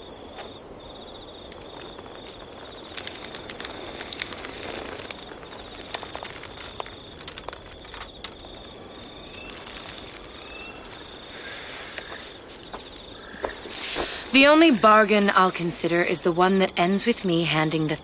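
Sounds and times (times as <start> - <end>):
insects chirring: 0.0 - 18.0
light clicks and crackles: 0.3 - 15.7.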